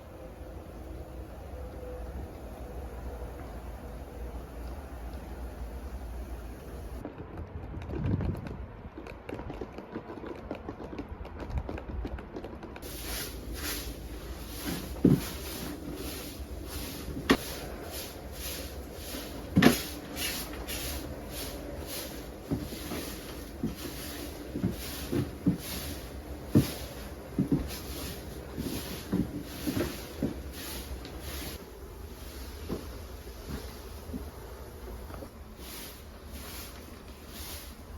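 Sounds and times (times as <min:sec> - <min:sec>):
steady hiss: 0:00.0 - 0:07.0, 0:12.8 - 0:37.9.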